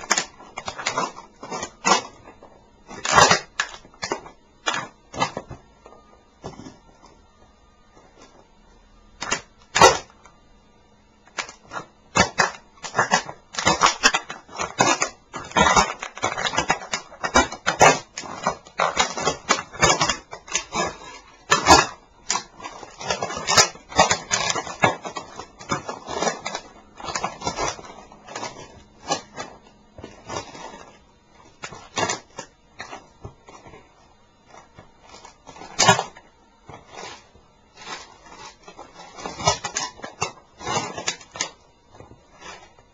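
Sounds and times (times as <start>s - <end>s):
toy model cracking and crunching: 0.0s - 5.6s, 9.2s - 10.2s, 11.2s - 33.8s, 34.4s - 42.9s.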